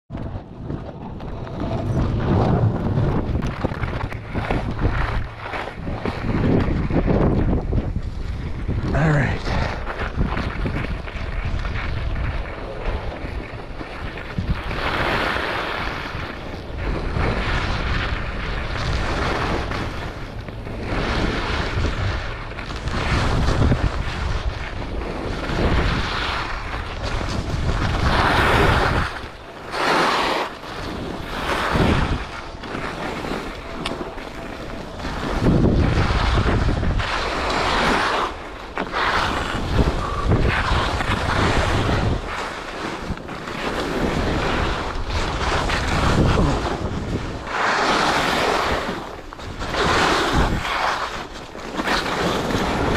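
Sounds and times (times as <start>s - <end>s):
wind buffeting microphone: 0.1s - 52.9s
skis scraping over snow: 0.2s - 52.9s.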